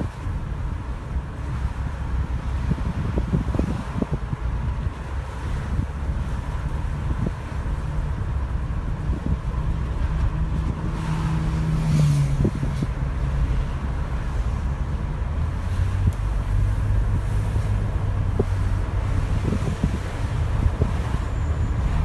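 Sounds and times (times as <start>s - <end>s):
car engine and tyres rumbling: 0.0s - 22.0s
low engine hum: 0.0s - 22.0s
wind on microphone: 0.0s - 22.0s.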